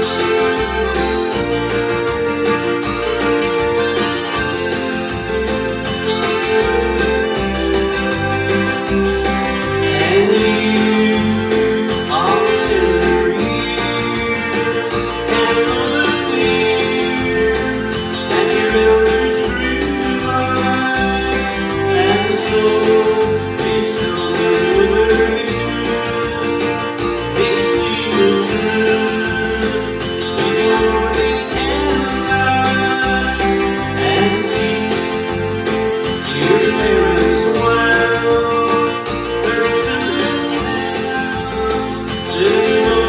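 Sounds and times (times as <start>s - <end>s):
piano accordion playing: 0.0s - 43.0s.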